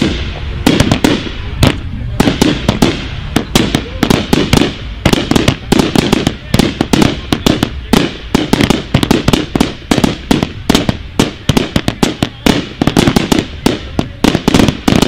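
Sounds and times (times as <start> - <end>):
fireworks banging: 0.0 - 15.0.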